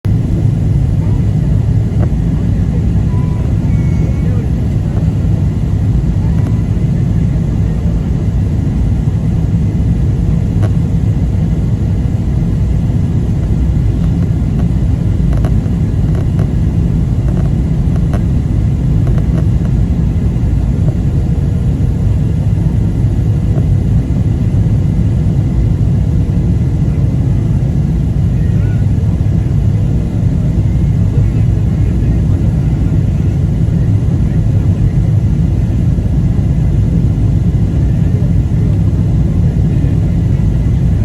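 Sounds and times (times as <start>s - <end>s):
airliner engines rumbling: 0.0s - 41.0s.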